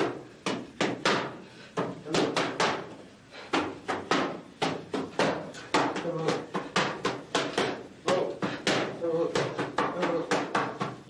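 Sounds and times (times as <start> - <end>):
boxing gloves slapping mitts: 0.0 - 11.0.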